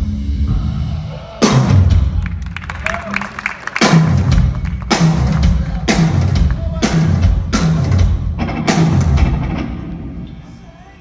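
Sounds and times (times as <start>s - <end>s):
rock band playing: 0.0s - 10.9s.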